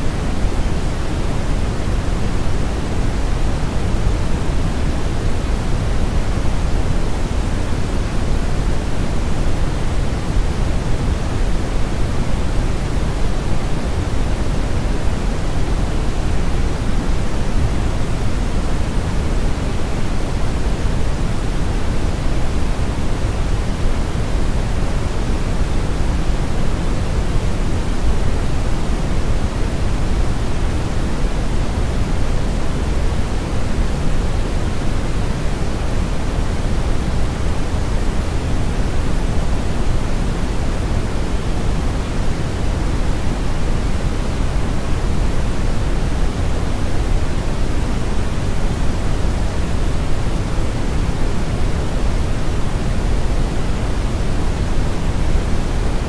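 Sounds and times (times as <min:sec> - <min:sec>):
brown noise hiss-rumble: 0:00.0 - 0:56.0.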